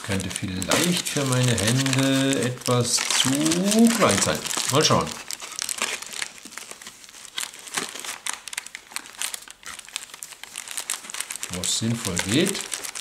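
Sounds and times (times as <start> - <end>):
gloves crinkling and rustling: 0.0 - 13.0.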